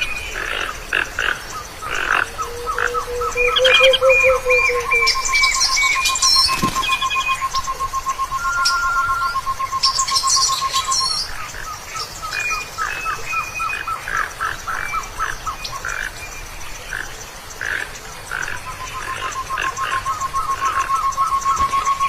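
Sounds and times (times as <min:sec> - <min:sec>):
animal chirps and calls: 0:00.0 - 0:16.1, 0:17.6 - 0:22.0.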